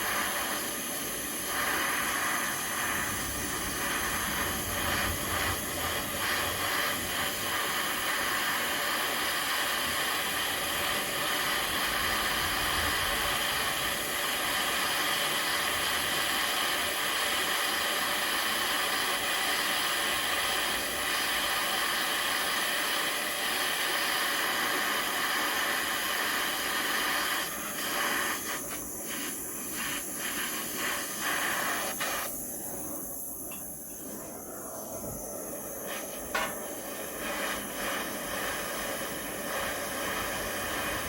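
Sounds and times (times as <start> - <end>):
gas torch flame hissing: 0.0 - 41.0.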